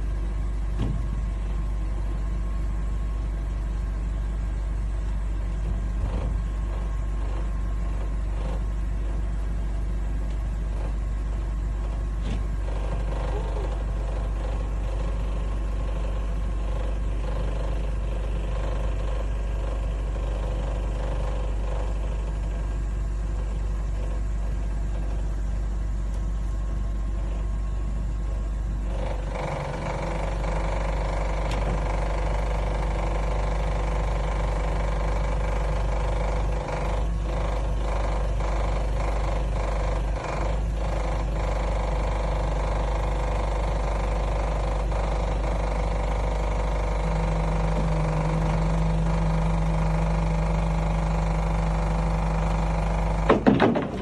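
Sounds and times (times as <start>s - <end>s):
forklift engine idling: 0.0s - 54.0s.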